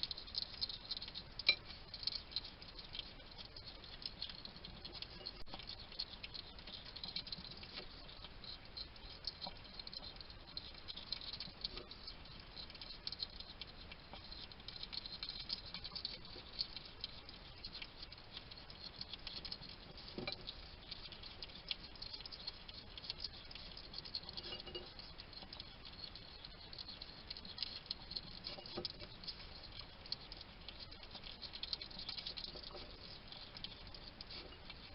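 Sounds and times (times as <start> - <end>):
hedgehog crunching food: 0.0 - 34.9.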